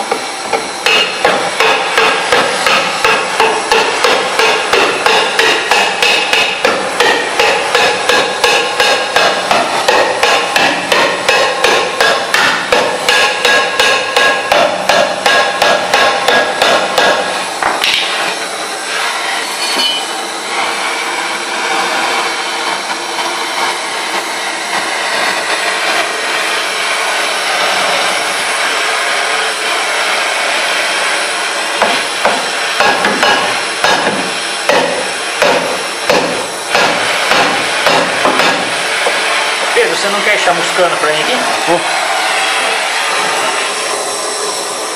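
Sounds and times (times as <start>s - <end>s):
gas torch flame hissing: 0.0s - 44.9s.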